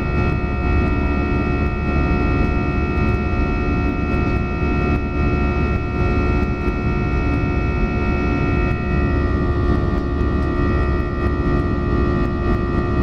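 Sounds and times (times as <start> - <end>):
deep rumble of airflow: 0.0 - 13.0
jet engine whine: 0.0 - 13.0.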